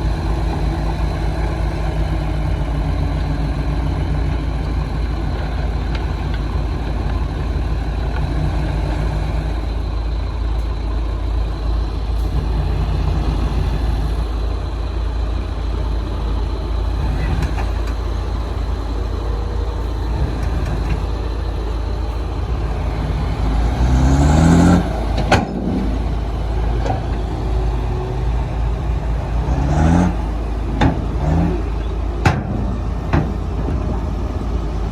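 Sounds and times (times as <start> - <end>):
heavy diesel engine rumbling: 0.0 - 34.9.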